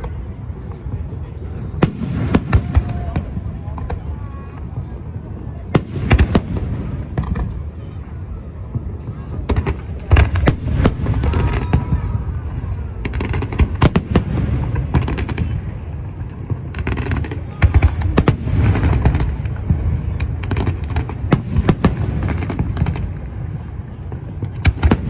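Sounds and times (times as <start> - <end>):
fireworks booming: 0.0 - 25.0
fireworks crackling: 0.0 - 25.0.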